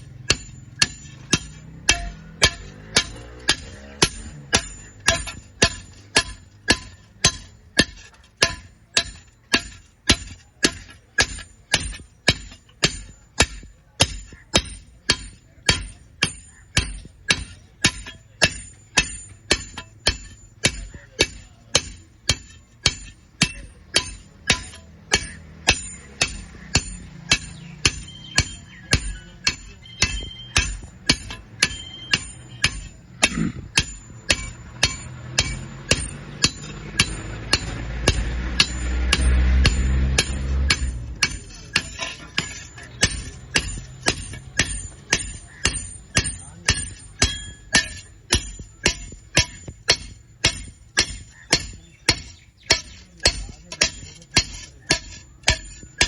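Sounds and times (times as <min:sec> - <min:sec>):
hammer striking iron: 0:00.0 - 0:56.0.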